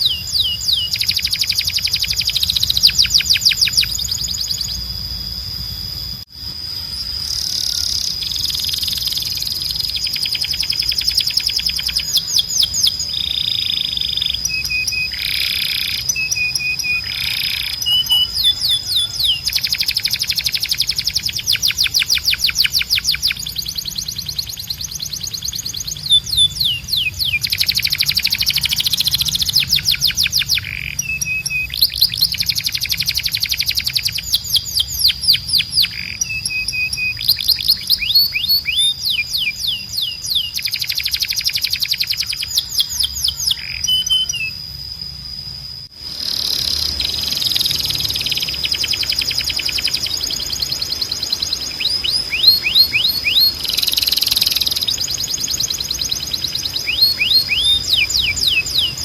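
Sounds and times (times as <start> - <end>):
canary singing trills: 0.0 - 59.0
steady high whistle tone: 0.0 - 59.0.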